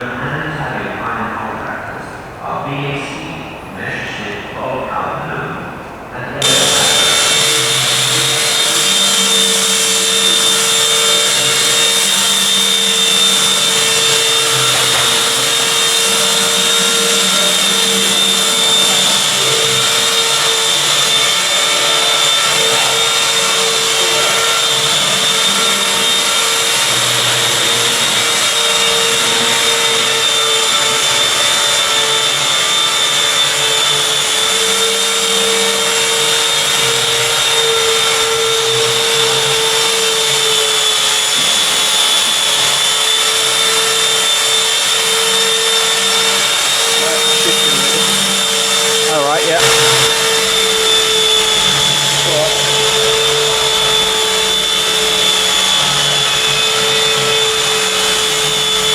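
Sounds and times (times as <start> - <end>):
rushing hiss: 6.4 - 56.3
electric motor whining: 6.4 - 58.9.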